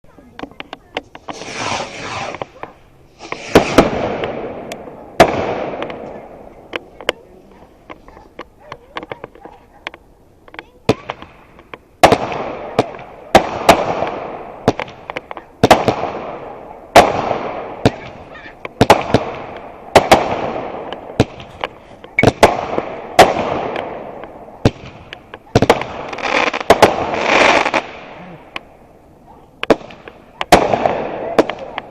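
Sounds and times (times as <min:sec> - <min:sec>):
small firework pops: 0:00.3 - 0:28.7, 0:29.6 - 0:31.9
loud firework bangs with hiss: 0:00.9 - 0:29.0, 0:29.6 - 0:31.9.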